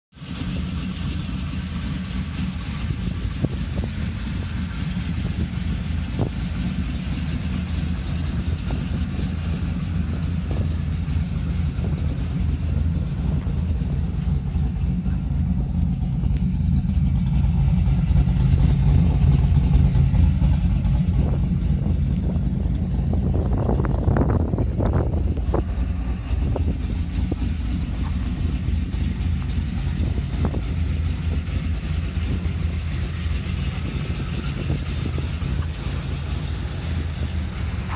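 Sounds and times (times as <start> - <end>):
car engine idling: 0.1 - 37.9.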